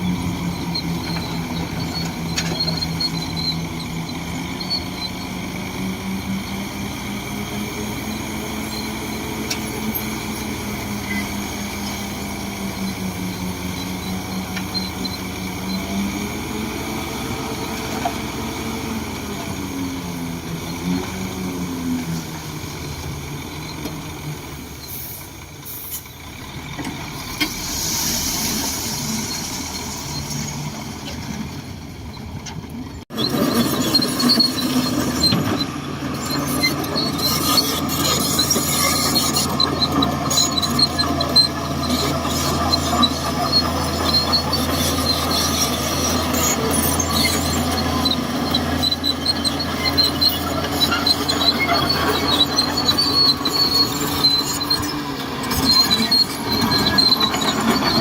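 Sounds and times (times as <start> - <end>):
bulldozer diesel engine: 0.0 - 58.0.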